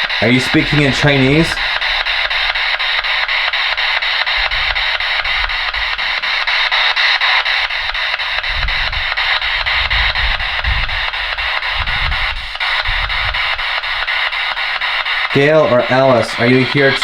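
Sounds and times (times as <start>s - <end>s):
radio scanner chopped static: 0.0s - 17.0s.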